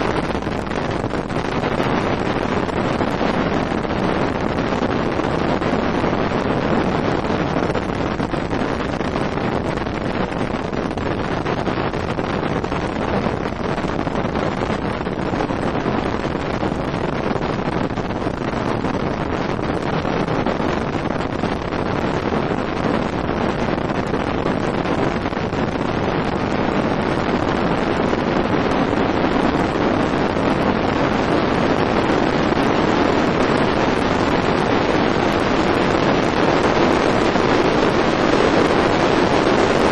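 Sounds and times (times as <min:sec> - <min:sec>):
boat motor and hull noise: 0:00.0 - 0:39.9
wind on microphone: 0:00.0 - 0:39.9.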